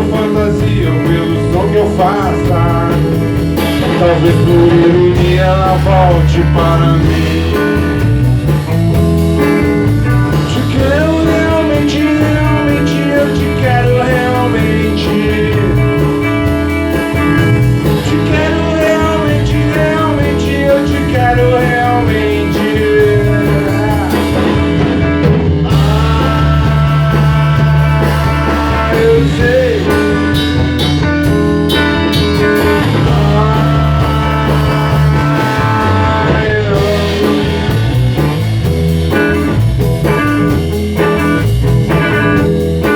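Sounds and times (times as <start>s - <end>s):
bass guitar notes: 0.0s - 42.9s
bending lead guitar: 0.0s - 42.9s.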